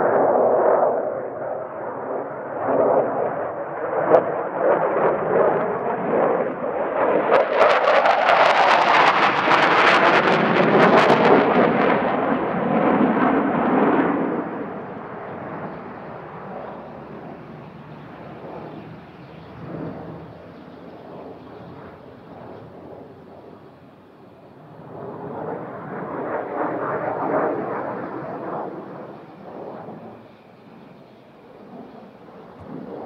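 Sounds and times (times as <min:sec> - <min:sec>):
crackling jet engine roar: 0:00.0 - 0:33.0.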